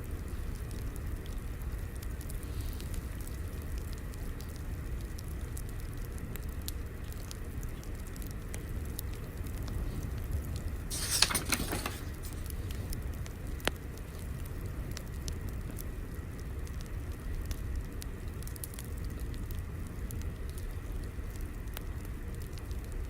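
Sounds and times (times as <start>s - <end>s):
low rumble of fire: 0.0s - 11.2s, 12.0s - 23.0s
fire crackling: 0.0s - 23.0s.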